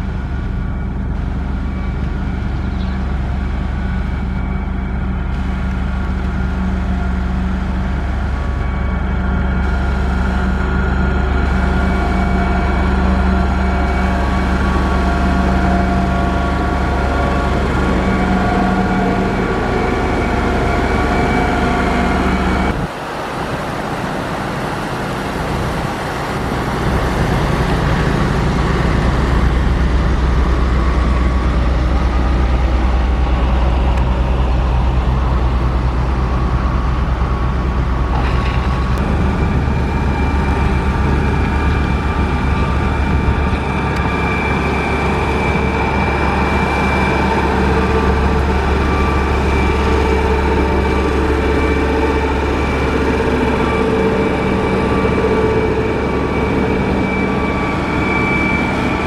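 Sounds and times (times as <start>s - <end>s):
diesel construction machinery running: 0.0s - 59.0s.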